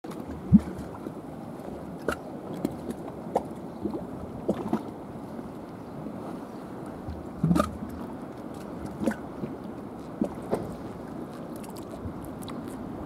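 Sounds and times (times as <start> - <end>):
sea water lapping: 0.0 - 13.0
wind on microphone: 0.3 - 13.0.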